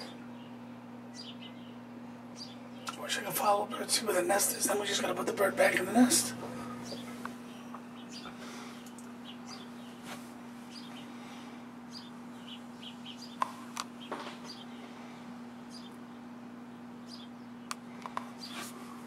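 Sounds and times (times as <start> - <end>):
sparrows chirping: 0.0 - 18.7
steady low hum: 0.0 - 19.0.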